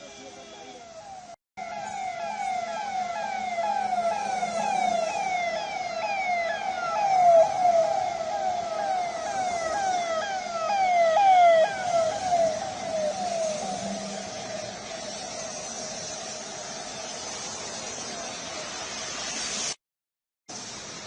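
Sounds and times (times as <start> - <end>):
electronic siren: 0.0 - 18.3.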